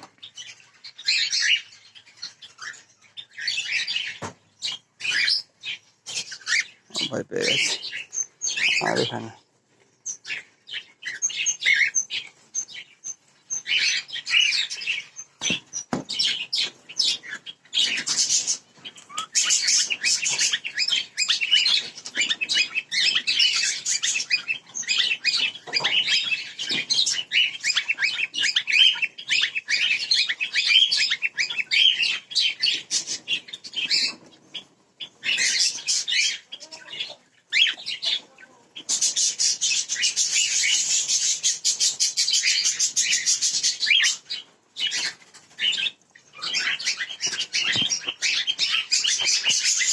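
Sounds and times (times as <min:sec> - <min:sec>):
cockatiels chirping and calling: 0:00.0 - 0:09.4, 0:10.0 - 0:49.9.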